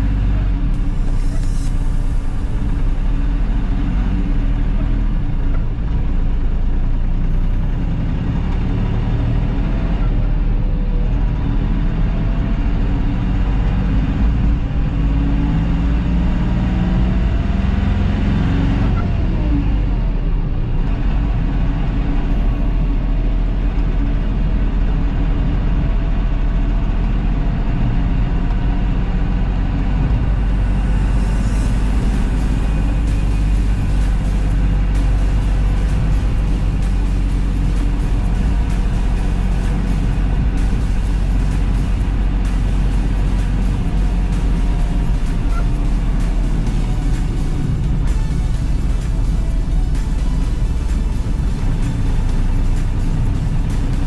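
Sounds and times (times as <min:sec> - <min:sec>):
diesel engine accelerating: 0:00.0 - 0:54.0.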